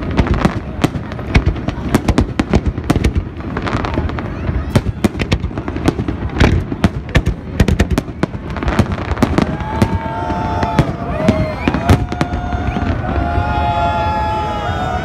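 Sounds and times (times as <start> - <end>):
fireworks bangs and crackles: 0.0 - 15.0
onlookers' voices: 0.0 - 15.0.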